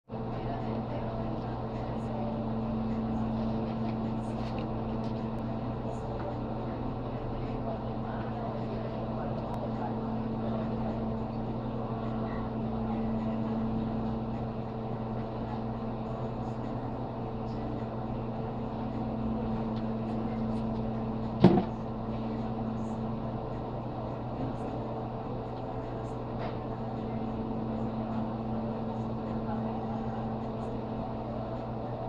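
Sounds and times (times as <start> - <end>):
low machine hum: 0.1 - 32.0.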